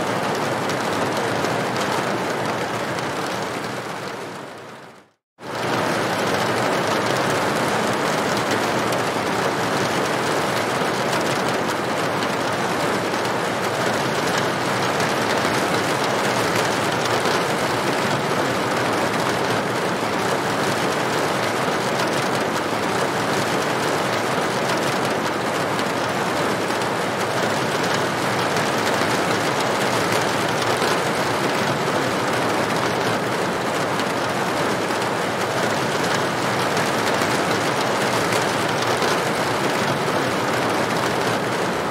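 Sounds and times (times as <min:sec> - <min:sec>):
rain on a tin roof: 0:00.0 - 0:41.9.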